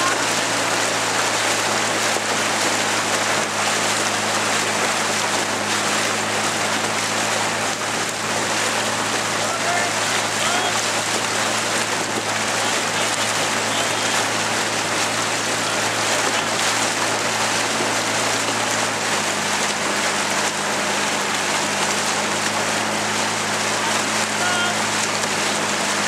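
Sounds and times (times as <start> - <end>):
paddles splashing water: 0.0 - 26.0.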